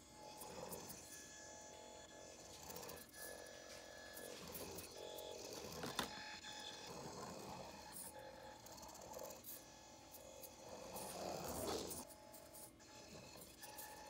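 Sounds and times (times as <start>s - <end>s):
toy car motor whine: 0.0s - 14.0s.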